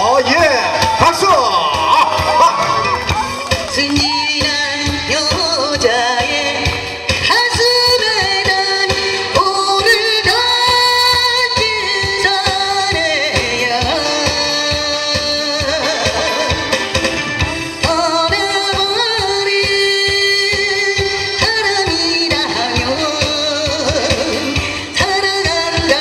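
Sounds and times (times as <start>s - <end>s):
amplified backing music with drum beat: 0.0s - 26.0s
woman singing into a microphone: 3.4s - 16.9s, 17.6s - 26.0s.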